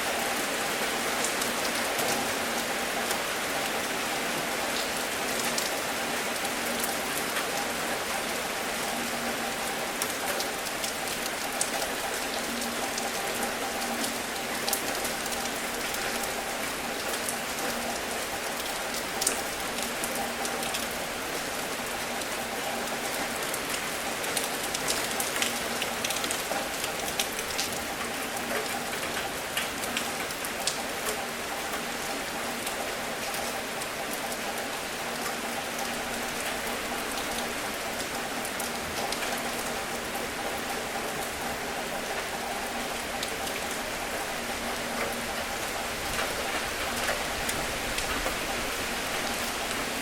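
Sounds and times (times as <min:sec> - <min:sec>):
raindrops ticking on a surface: 0:00.0 - 0:50.0.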